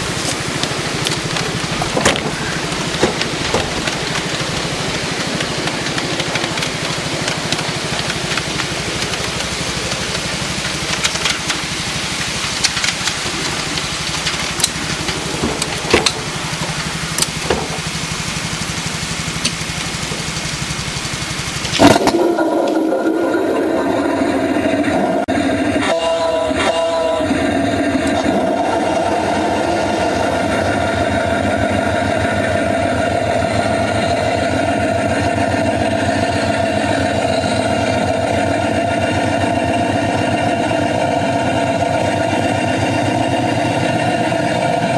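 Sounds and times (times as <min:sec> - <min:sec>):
small engine idling: 0:00.0 - 0:44.9.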